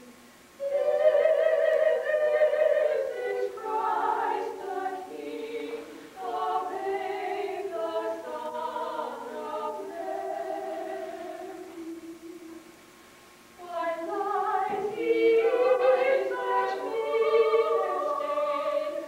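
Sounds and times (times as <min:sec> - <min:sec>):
voices singing unaccompanied: 0:00.0 - 0:12.8, 0:13.6 - 0:19.0.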